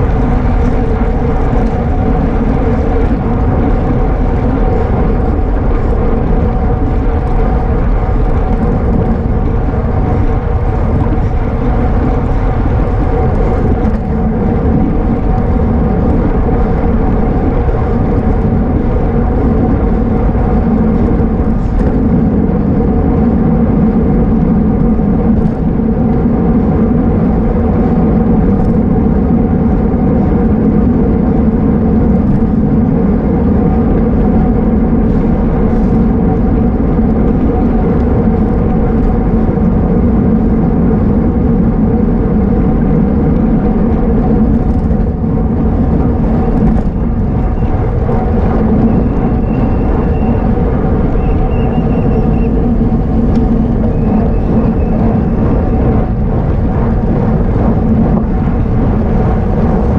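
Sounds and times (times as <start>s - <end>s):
wind roaring over microphone: 0.0s - 59.9s.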